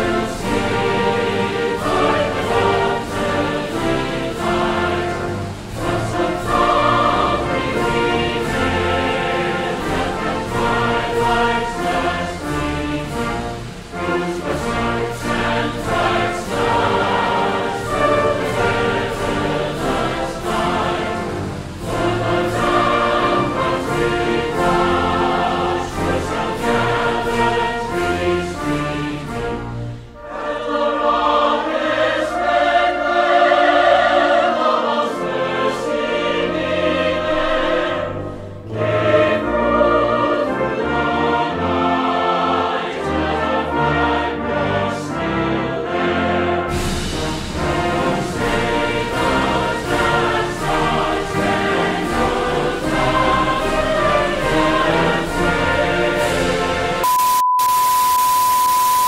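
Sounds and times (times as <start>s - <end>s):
choir singing: 0.0s - 57.0s
orchestral accompaniment: 0.0s - 57.1s.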